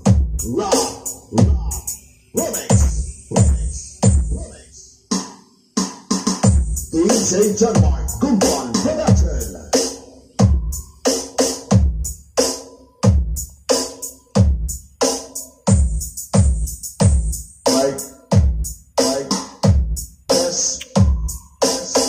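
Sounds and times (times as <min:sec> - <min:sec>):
electronic music with drum-machine beat: 0:00.0 - 0:22.0.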